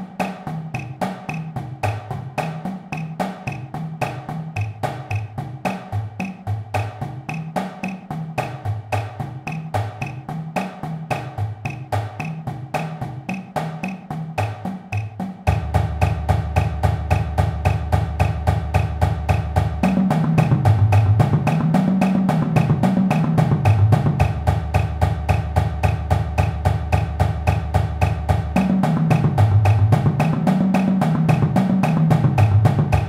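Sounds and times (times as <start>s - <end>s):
marching bass drums: 0.0s - 33.0s
snare drum playing eighth notes: 0.0s - 33.0s.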